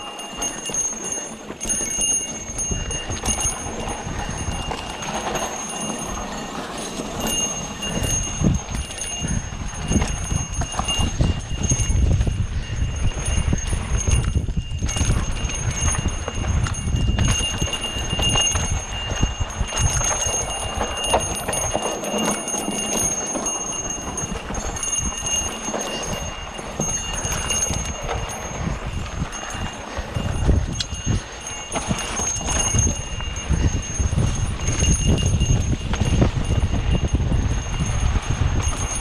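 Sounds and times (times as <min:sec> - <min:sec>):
bike rattling over bumps: 0:00.0 - 0:39.0
thin high ringing: 0:00.0 - 0:39.0
tyres on dirt: 0:00.0 - 0:39.0
wind buffeting microphone: 0:00.0 - 0:39.0.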